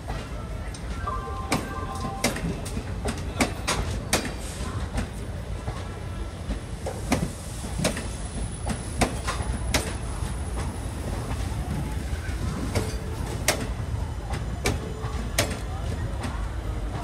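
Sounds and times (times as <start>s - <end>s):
train low rumble: 0.0s - 17.0s
train wheels clacking on rails: 1.5s - 17.0s.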